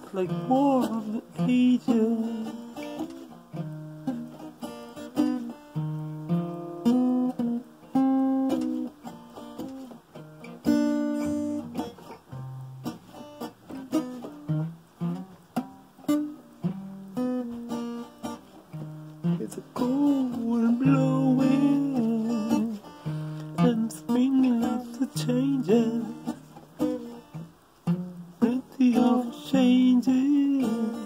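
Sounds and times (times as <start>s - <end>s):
acoustic guitar: 0.0s - 31.0s.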